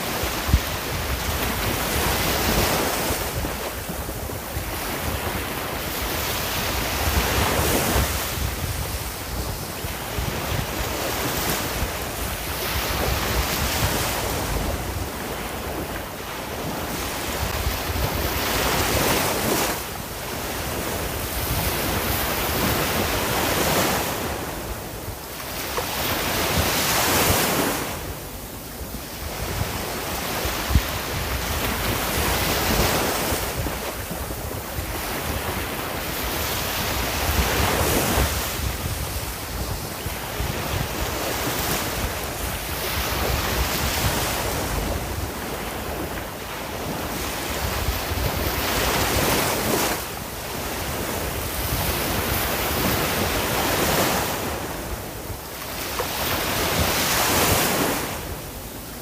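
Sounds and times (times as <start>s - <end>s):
low wind rumble: 0.0s - 25.4s, 26.0s - 55.6s
sea waves breaking on shore: 0.0s - 59.0s.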